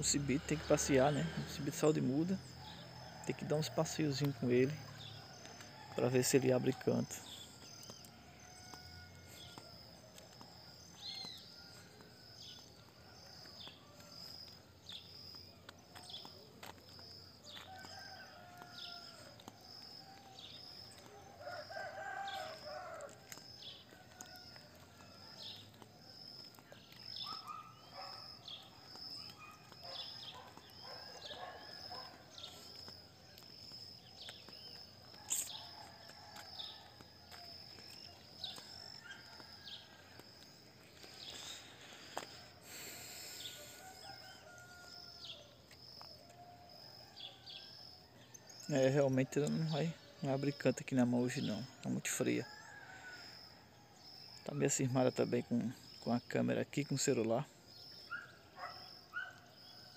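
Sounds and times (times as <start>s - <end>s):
birds calling: 0.0s - 46.5s, 54.4s - 59.9s
high insect trill: 0.0s - 57.0s.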